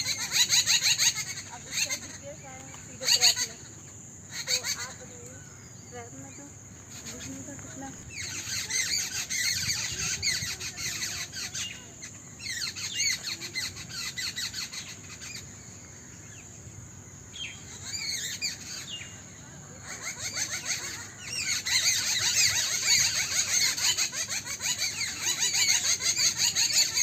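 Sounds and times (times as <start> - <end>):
flock of small birds chirping: 0.0 - 27.0.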